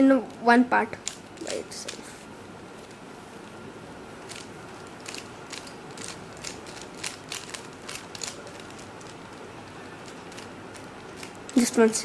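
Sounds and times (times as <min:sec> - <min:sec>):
speed cube clicking: 0:00.2 - 0:02.1, 0:04.2 - 0:12.0.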